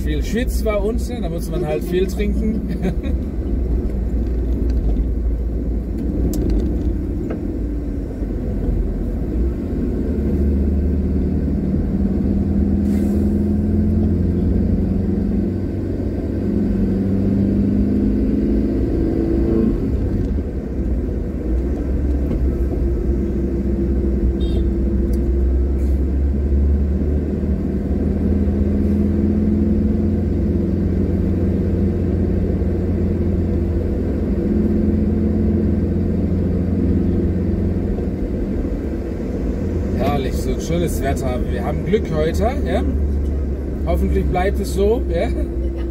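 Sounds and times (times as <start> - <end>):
car engine: 0.0 - 45.9
road rumble: 0.0 - 45.9.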